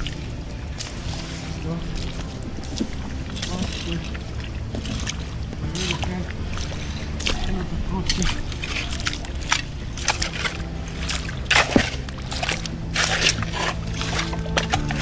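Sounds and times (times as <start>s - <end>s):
spade squelching in wet mud: 0.0s - 15.0s.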